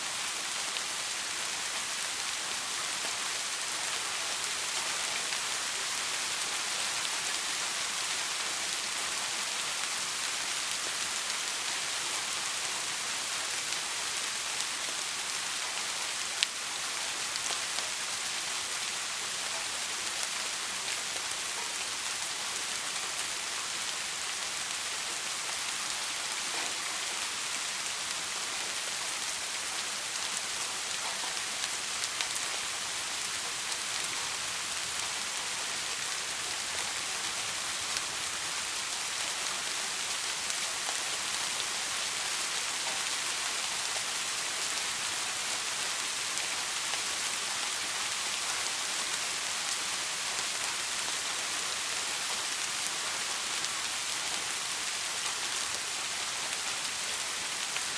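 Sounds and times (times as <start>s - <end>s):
soft rain falling: 0.0s - 57.9s.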